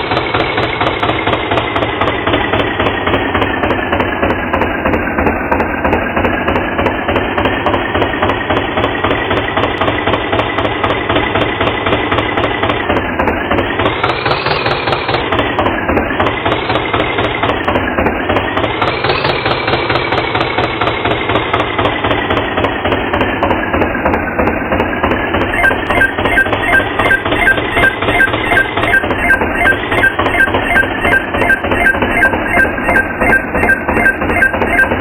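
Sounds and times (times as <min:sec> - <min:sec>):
tractor engine chugging: 0:00.0 - 0:35.0.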